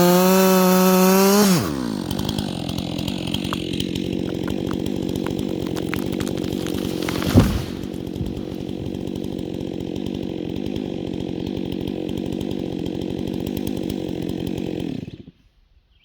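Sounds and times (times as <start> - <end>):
chainsaw engine running: 0.0 - 15.3.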